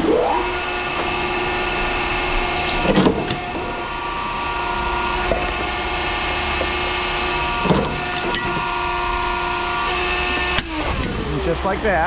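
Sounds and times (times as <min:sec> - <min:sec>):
electric saw motor whining: 0:00.0 - 0:11.4.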